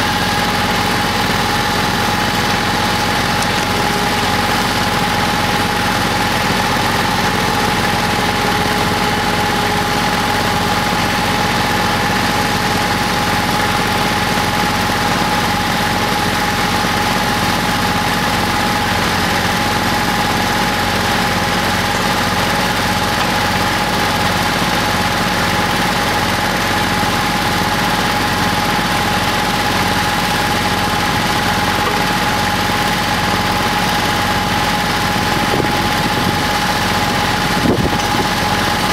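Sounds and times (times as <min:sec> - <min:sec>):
constant whine: 0:00.0 - 0:26.4, 0:29.0 - 0:38.9
tractor engine idling: 0:00.0 - 0:38.9.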